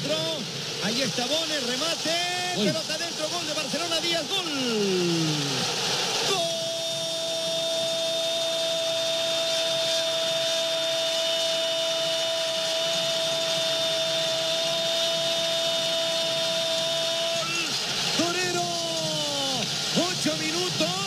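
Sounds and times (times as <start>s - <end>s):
stadium crowd cheering: 0.0s - 21.0s.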